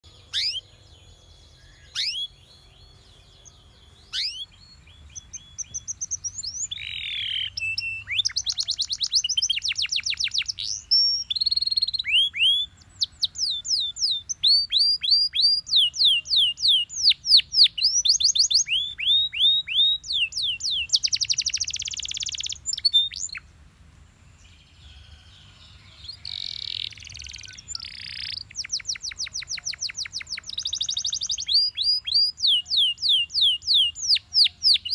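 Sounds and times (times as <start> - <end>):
canary singing trills: 0.0 - 23.5, 24.4 - 34.9.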